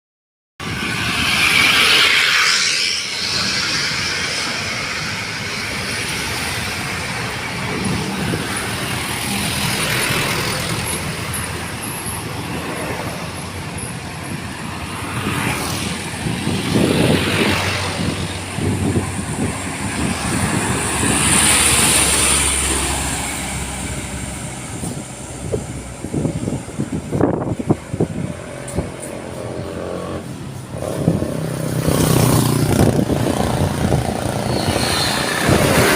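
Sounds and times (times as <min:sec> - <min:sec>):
traffic passing by: 0:00.6 - 0:35.9.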